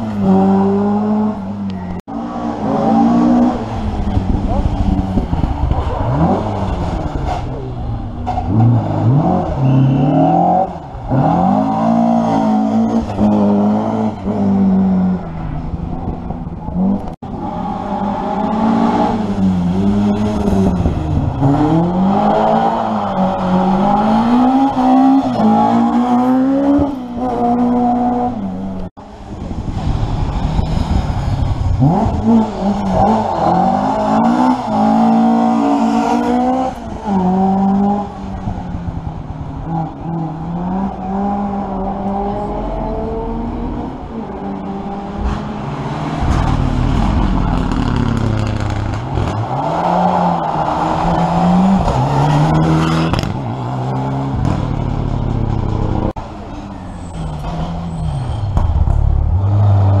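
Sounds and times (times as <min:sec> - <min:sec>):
rally car engines revving: 0:00.0 - 1:00.0.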